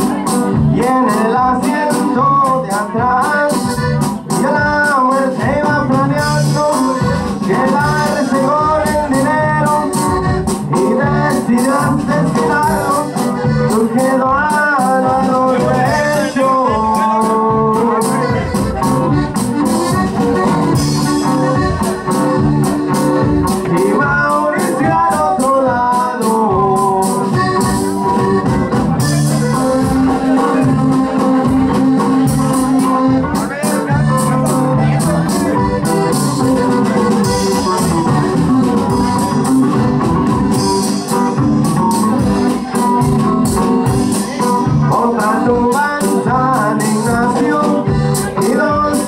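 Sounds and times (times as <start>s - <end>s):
accordion melody: 0.0s - 49.0s
bass: 0.0s - 49.0s
steady drum beat: 0.0s - 49.0s.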